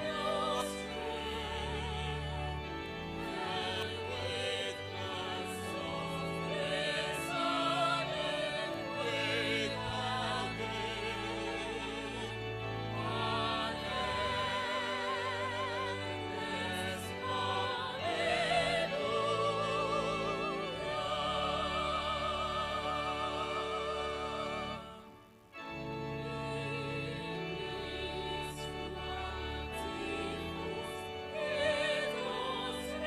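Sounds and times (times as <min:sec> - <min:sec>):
church organ chords: 0:00.0 - 0:33.0
voices singing a hymn: 0:00.0 - 0:33.0.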